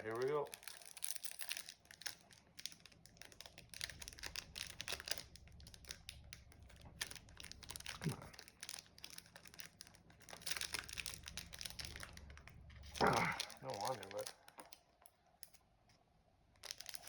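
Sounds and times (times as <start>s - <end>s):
plastic wrapping crinkling and tearing: 0.0s - 15.5s, 16.5s - 17.0s.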